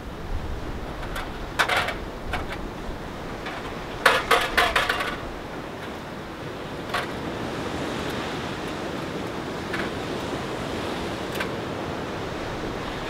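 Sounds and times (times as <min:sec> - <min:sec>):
surf: 0:00.0 - 0:13.0
wind: 0:00.0 - 0:13.0.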